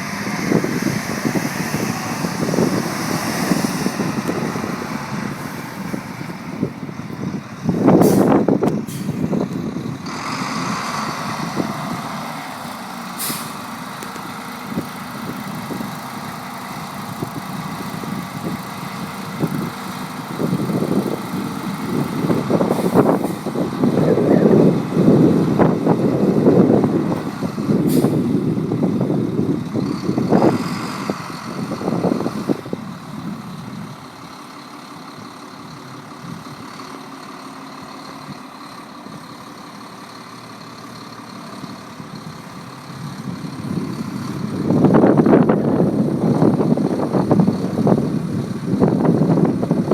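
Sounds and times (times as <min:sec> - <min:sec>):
diesel truck engine rumbling: 0:00.0 - 0:49.9.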